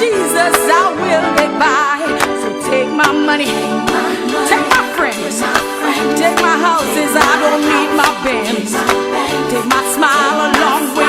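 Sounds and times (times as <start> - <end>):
gospel music: 0.0 - 11.0.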